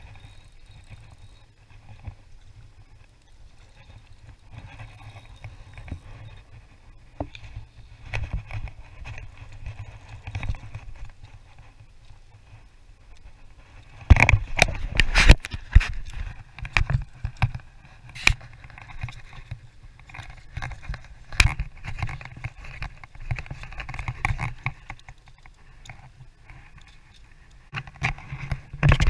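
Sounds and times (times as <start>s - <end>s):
camera rubbing against clothing: 0.0s - 25.0s.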